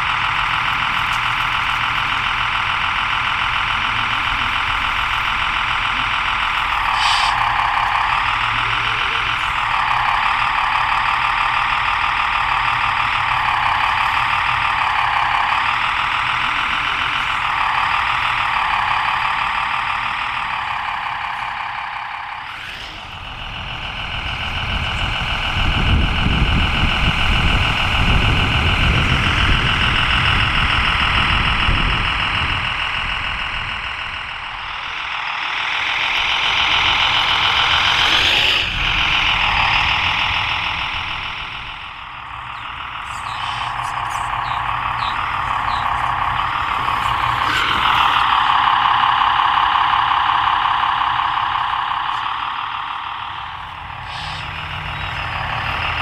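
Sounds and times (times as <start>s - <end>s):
low rumbling noise: 0.0s - 56.0s
simulated truck engine sound: 0.0s - 56.0s.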